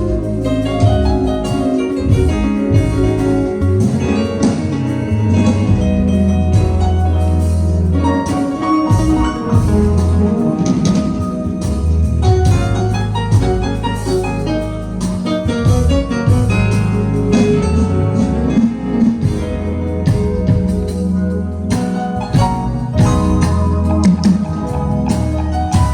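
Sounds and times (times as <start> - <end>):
instrumental band music: 0.0 - 25.9.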